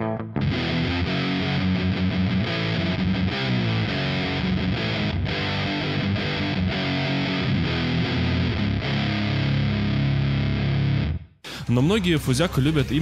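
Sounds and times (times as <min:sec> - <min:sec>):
distorted electric guitar riff: 0:00.0 - 0:11.6.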